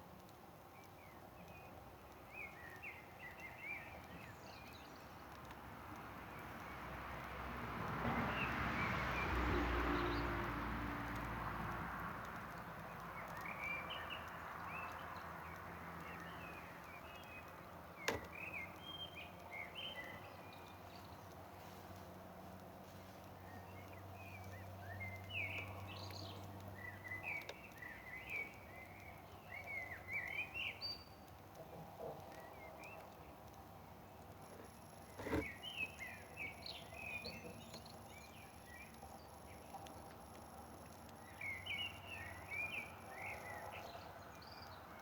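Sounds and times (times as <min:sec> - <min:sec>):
small birds chirping: 0:00.0 - 0:07.4, 0:08.3 - 0:45.0.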